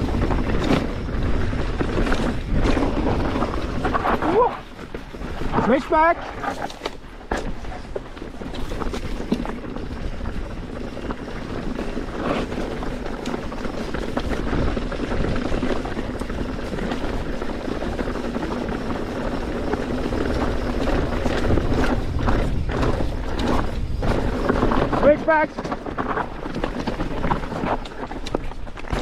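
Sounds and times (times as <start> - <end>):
bike rattling: 0.0 - 29.0
bike tyres crunching over rocks: 0.0 - 29.0
wind buffeting microphone: 0.0 - 29.0.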